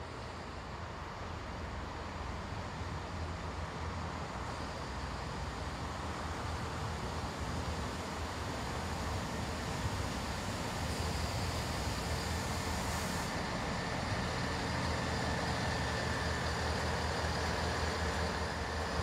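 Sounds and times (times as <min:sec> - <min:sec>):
faint high whine: 0:00.0 - 0:19.0
train engine and wheels rumbling: 0:00.0 - 0:19.0.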